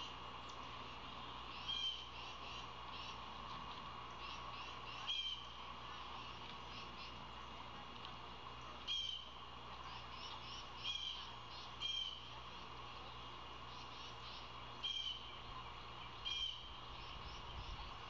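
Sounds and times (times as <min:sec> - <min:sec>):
faint bird chirping: 0:00.0 - 0:03.3, 0:04.0 - 0:07.8, 0:08.5 - 0:18.0
steady outdoor hiss: 0:00.0 - 0:18.0.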